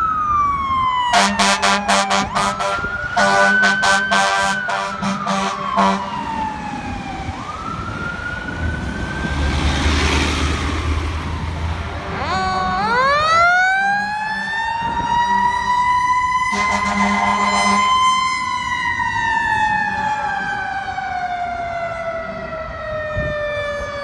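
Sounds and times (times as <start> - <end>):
fire truck siren wailing: 0.0 - 24.0
diesel engine rumble: 1.3 - 22.8.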